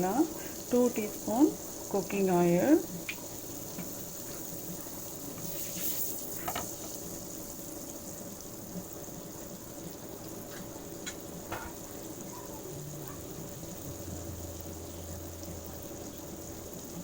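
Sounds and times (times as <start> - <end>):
oil sizzling in a frying pan: 0.0 - 17.0.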